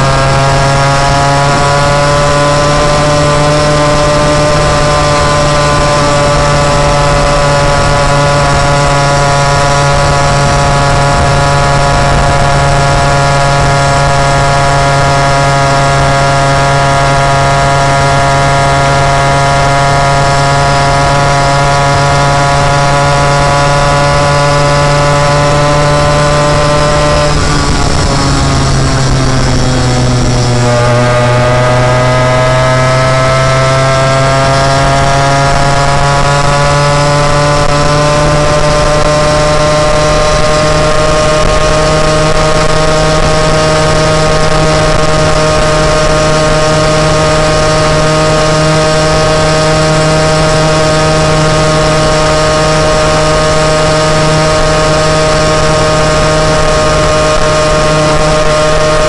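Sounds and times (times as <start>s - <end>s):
moped engine running: 0.0s - 59.0s.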